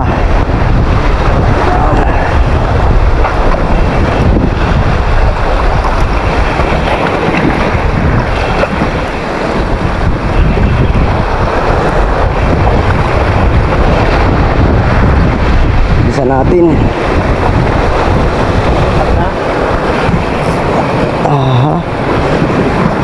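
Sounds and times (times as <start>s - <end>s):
ocean waves: 0.0s - 23.0s
wind buffeting microphone: 0.0s - 23.0s.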